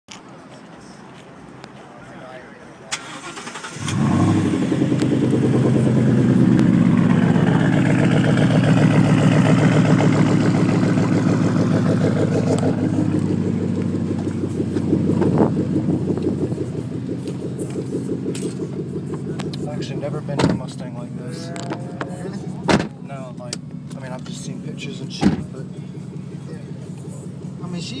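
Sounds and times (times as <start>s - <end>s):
car engine idling loudly: 3.7s - 28.0s.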